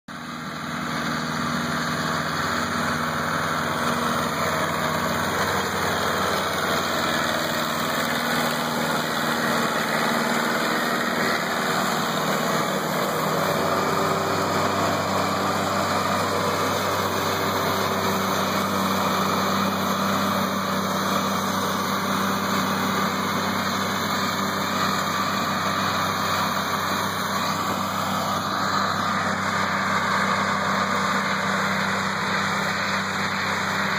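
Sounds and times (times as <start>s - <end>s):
tractor engine running under load: 0.1s - 33.9s.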